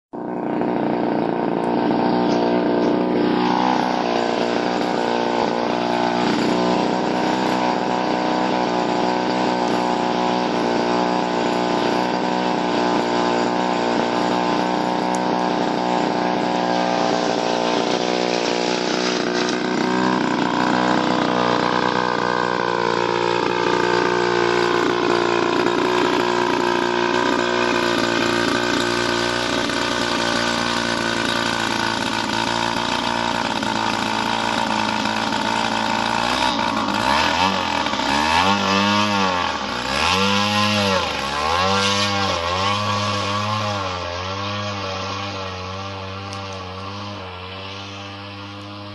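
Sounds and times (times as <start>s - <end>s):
model airplane engine buzzing: 0.2s - 48.9s.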